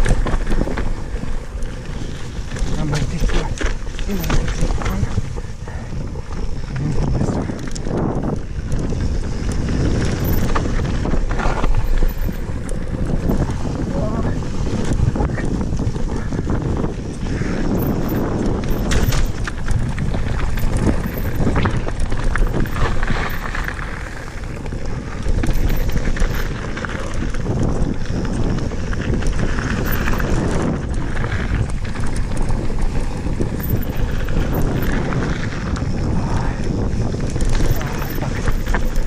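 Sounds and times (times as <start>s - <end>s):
bike tyres rumbling on gravel: 0.0s - 39.0s
clicks and rattles from bike: 0.0s - 39.0s
wind buffeting microphone: 0.0s - 39.0s.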